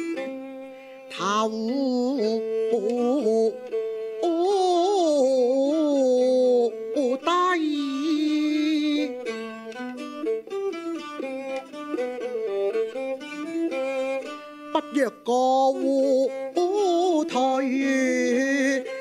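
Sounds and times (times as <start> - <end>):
bowed fiddle: 0.0 - 19.0
plucked lute: 0.0 - 19.0.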